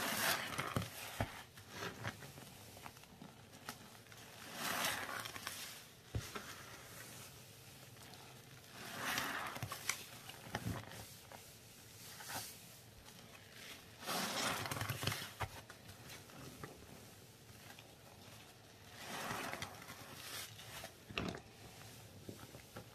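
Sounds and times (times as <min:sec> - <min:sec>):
wet squelching of sponges in paste: 0:00.0 - 0:22.9.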